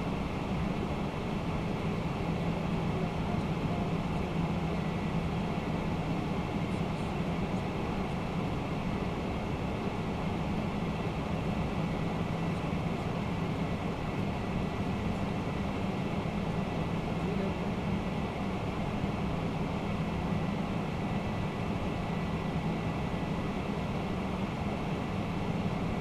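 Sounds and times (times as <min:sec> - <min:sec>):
air rush and engine noise: 0:00.0 - 0:26.0
constant low drone: 0:00.0 - 0:26.0.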